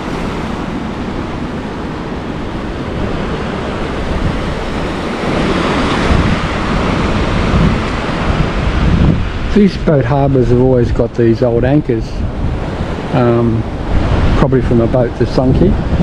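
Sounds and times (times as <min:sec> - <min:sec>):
sea surf breaking: 0:00.0 - 0:16.0
wind buffeting microphone: 0:00.0 - 0:16.0.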